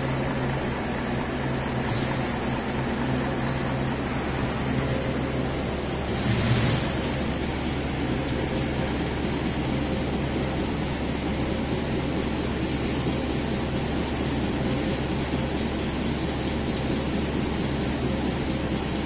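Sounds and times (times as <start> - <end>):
stamping press running: 0.0 - 19.0.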